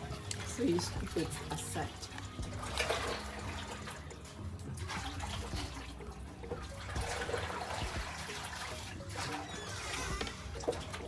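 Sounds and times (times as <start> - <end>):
liquid sloshing in a pot: 0.0 - 11.0.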